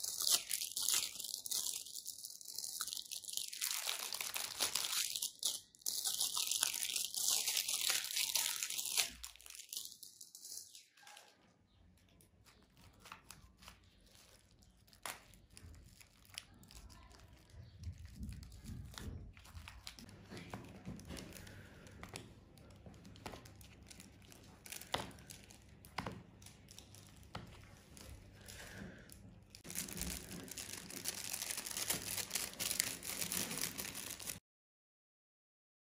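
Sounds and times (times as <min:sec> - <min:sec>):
plastic wrap crinkling and tearing: 0:00.0 - 0:11.5, 0:12.1 - 0:34.4.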